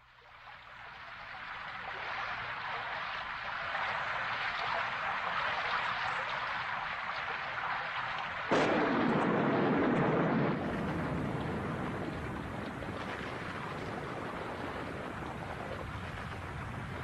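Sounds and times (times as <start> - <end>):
rushing water: 0.0 - 17.0
water surge with deep rumble: 1.6 - 17.0.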